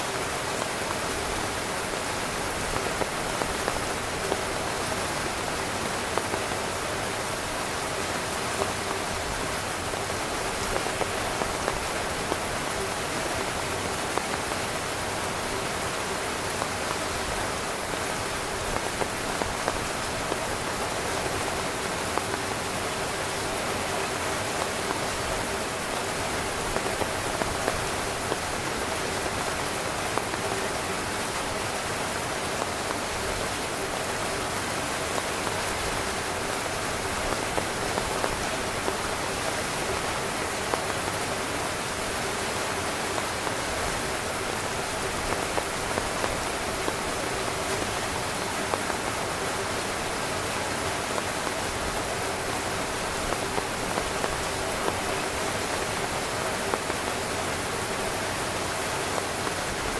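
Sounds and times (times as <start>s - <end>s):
rain pattering on a tent: 0.0s - 59.9s.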